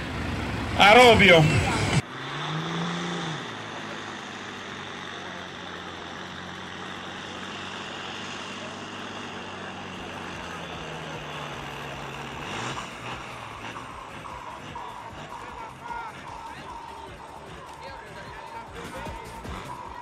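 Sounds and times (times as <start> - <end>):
diesel truck engine under load: 0.0 - 20.0.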